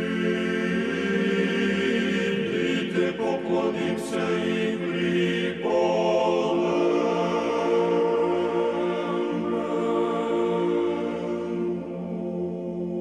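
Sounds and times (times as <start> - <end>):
choir singing a chant: 0.0 - 13.0.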